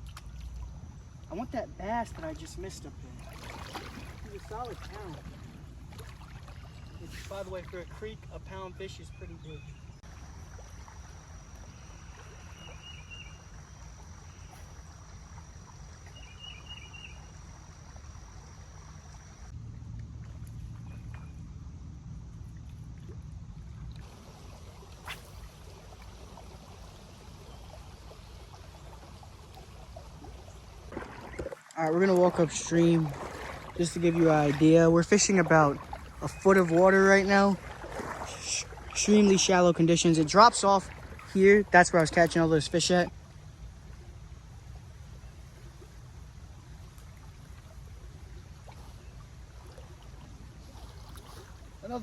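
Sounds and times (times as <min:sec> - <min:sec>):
creek water trickling: 0:00.0 - 0:52.0.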